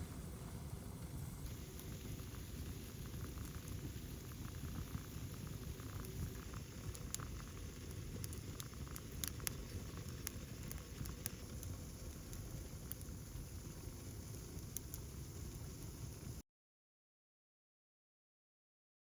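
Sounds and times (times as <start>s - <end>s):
hiss of fire flames: 0.0s - 16.4s
wood fire crackling and popping: 0.8s - 16.4s.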